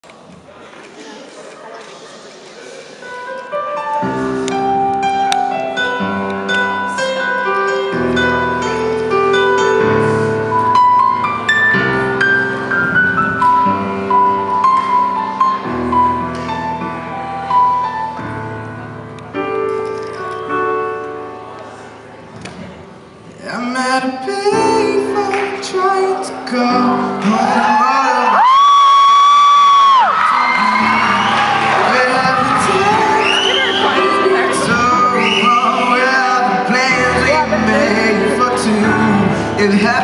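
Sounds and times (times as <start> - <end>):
piano playing chords and melody: 3.0 - 40.0.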